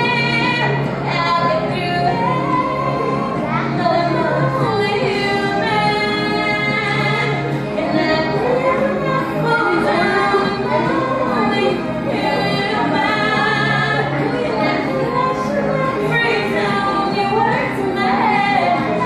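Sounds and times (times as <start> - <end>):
musical accompaniment: 0.0 - 19.0
woman singing: 0.0 - 19.0.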